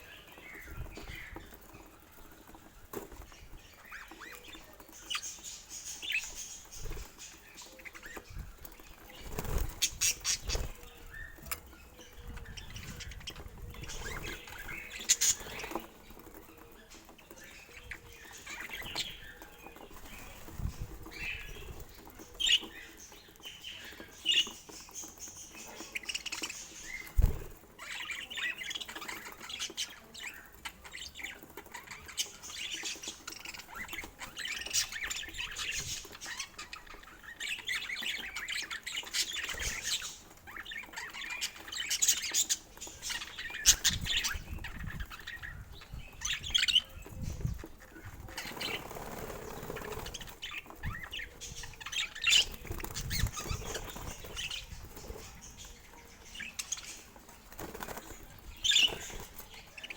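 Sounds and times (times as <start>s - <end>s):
budgerigars chirping: 2.6s - 59.9s.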